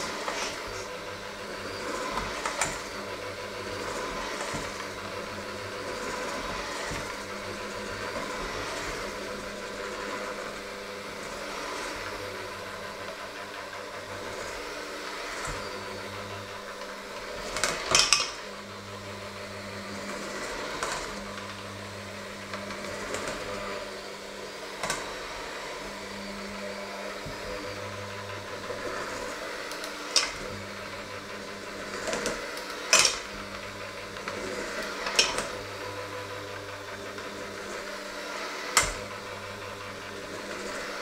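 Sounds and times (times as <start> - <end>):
electric hand mixer running: 0.0 - 41.0.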